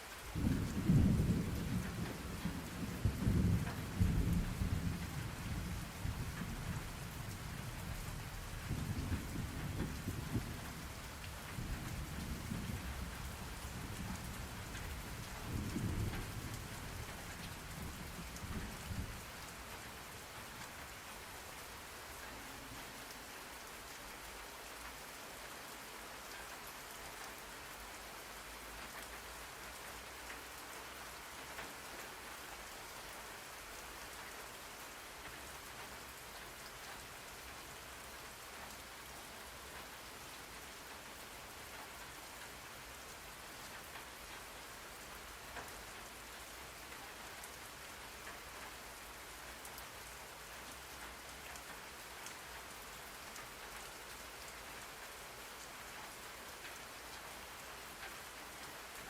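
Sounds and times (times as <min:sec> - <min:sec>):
steady rain hiss: 0:00.0 - 0:59.0
raindrop ticks: 0:00.1 - 0:25.0, 0:26.2 - 0:40.1, 0:40.8 - 0:59.0.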